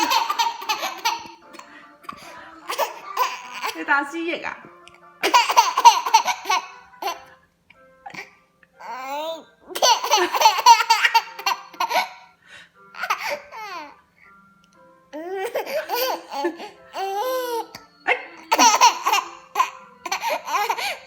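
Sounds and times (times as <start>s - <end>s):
baby laughing: 0.0s - 3.8s, 5.2s - 7.3s, 8.1s - 12.3s, 13.0s - 14.0s, 15.2s - 21.0s.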